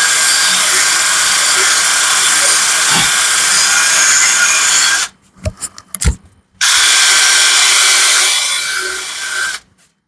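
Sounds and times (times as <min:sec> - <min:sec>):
electric drill running: 0:00.0 - 0:05.1, 0:06.6 - 0:09.6.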